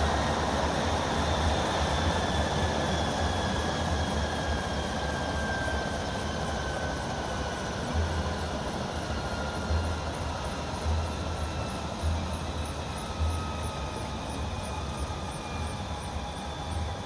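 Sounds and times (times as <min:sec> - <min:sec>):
faint turbine whine: 0:00.0 - 0:17.0
helicopter rotor and turbine: 0:00.0 - 0:17.0.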